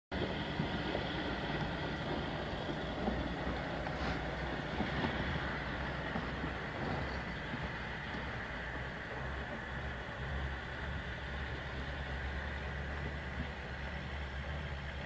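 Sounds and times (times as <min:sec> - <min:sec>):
truck diesel engine rumble: 0:00.1 - 0:15.0.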